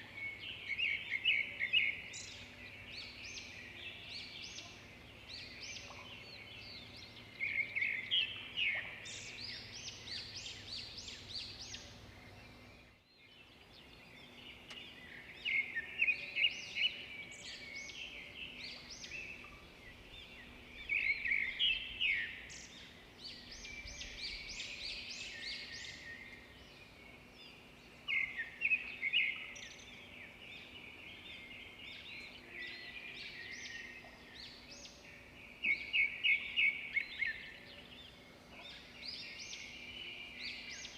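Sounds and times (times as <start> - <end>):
faint outdoor background: 0.0 - 40.9
songbirds chirping: 0.0 - 40.9.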